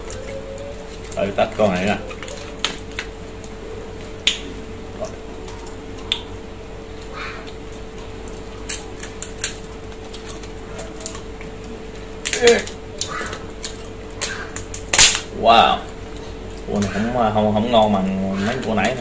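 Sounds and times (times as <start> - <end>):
crab shells cracking by hand: 0.0 - 17.0
low hum: 0.0 - 19.0.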